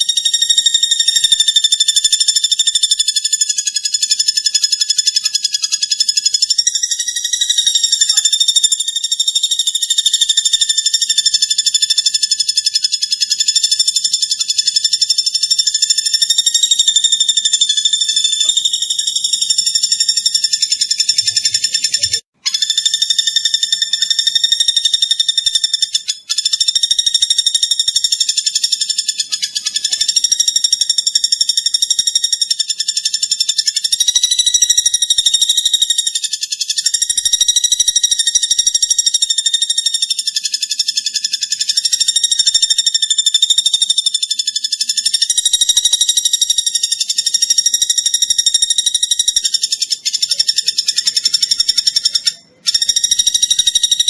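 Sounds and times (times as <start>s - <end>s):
songbird trilling: 0.0s - 54.0s.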